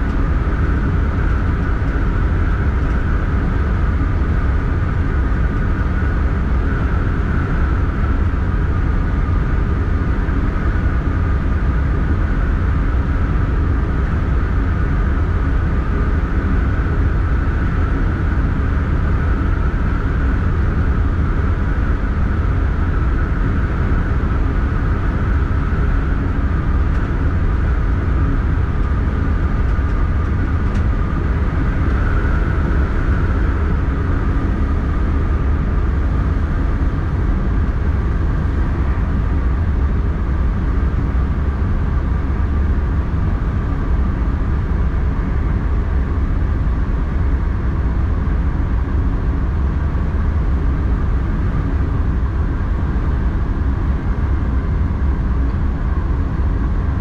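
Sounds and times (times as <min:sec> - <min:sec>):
steady higher hum: 0:00.0 - 0:57.0.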